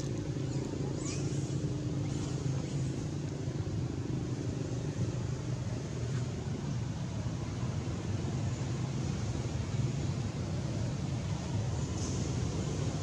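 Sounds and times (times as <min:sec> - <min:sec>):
vehicle engines idling and passing: 0:00.0 - 0:13.0.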